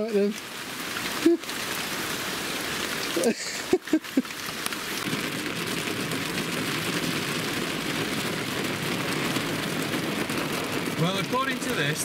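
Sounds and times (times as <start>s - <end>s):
heavy rain on a roof: 0.0s - 12.0s.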